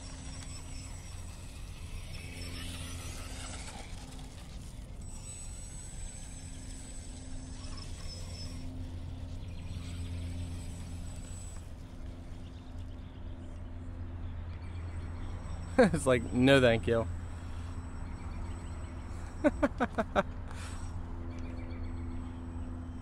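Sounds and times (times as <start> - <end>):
toy truck running: 0.0 - 13.2, 14.8 - 21.0
thin high whine: 0.0 - 23.0.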